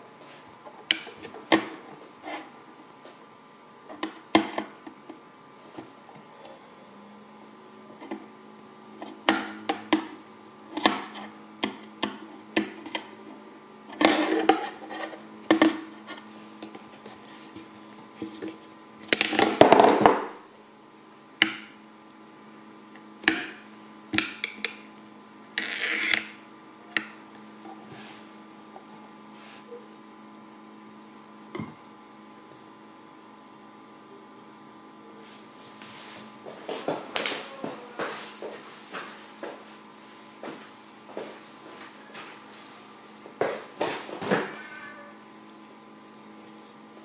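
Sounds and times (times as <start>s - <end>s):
magnetic stirrer hum: 0.0s - 47.0s.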